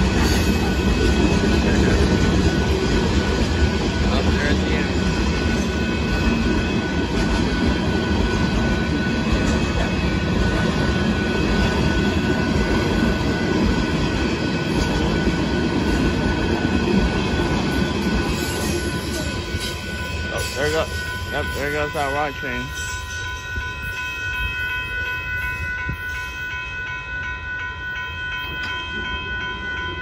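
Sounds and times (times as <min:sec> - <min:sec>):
crossing bell ringing: 0:00.0 - 0:30.0
freight train wheels rumbling: 0:00.0 - 0:30.0.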